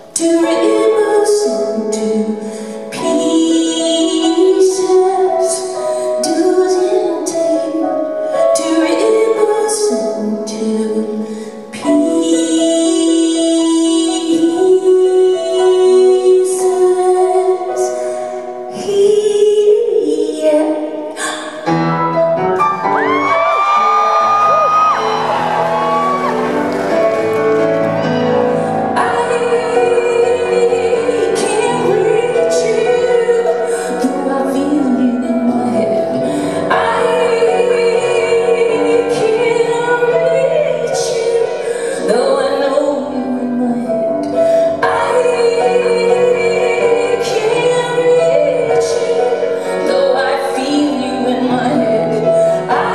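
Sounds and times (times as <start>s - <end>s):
woman singing: 0.0s - 21.8s, 28.5s - 52.9s
keyboard accompaniment: 0.0s - 52.9s
piano: 0.0s - 52.9s.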